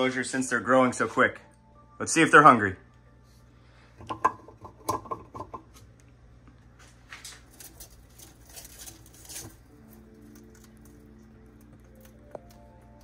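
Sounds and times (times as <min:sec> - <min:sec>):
soft background music: 0:00.0 - 0:06.0, 0:07.5 - 0:13.0.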